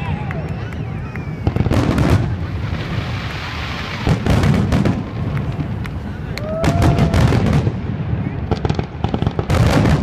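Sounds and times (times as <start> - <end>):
firework crackling reports: 0.0 - 10.0
firework whistling: 0.0 - 10.0.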